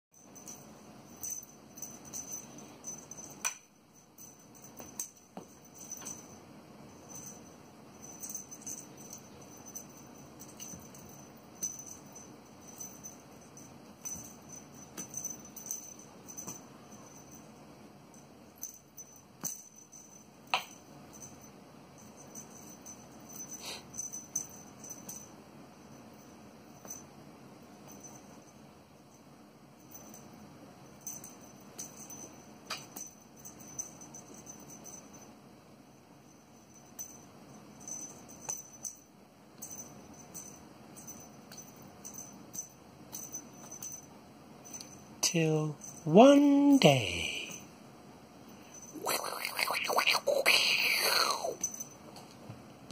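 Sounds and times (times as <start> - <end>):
small jingle bell jingling: 0.1 - 52.4.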